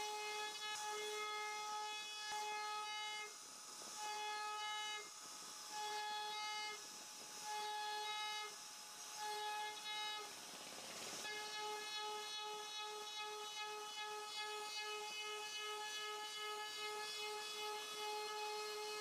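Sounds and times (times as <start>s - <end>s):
bit cutting wood hiss: 0.0s - 18.9s
router spindle whine: 0.0s - 19.0s.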